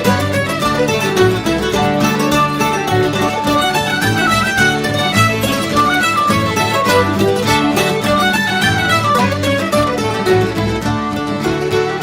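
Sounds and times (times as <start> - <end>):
bluegrass music with plucked strings: 0.0 - 12.0.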